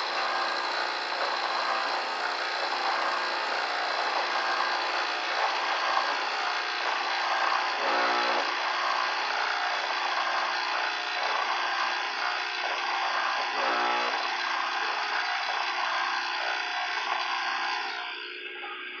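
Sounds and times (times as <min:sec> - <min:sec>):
espresso machine pump buzzing: 0:00.0 - 0:19.0.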